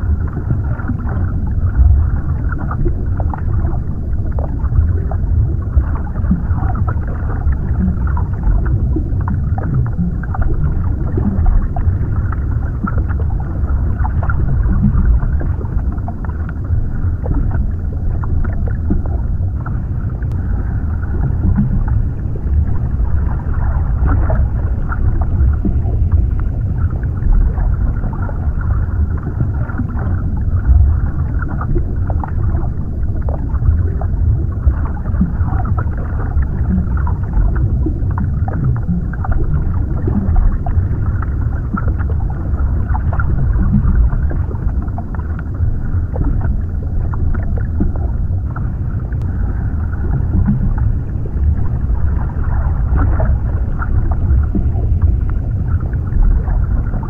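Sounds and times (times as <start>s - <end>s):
muffled underwater rumble: 0.0s - 57.0s
faint crackles and ticks: 0.1s - 52.3s.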